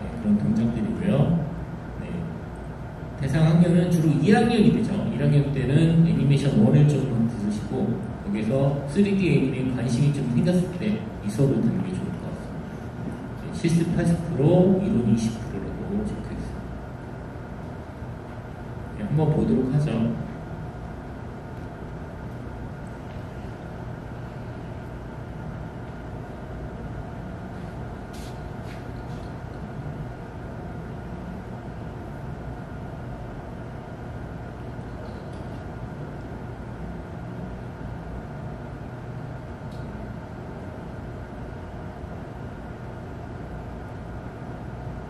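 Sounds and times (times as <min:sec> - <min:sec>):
low hum and hiss: 0:00.0 - 0:45.0.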